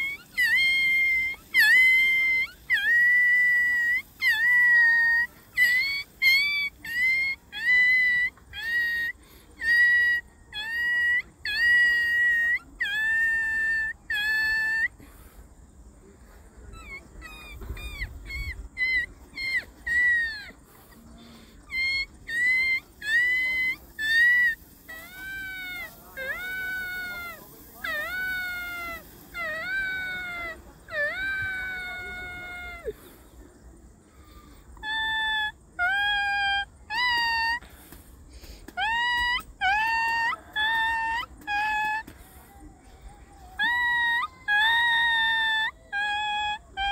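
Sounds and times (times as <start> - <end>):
puppy whimpering: 0.0 - 15.3, 16.6 - 33.2, 34.7 - 38.0, 38.6 - 46.9.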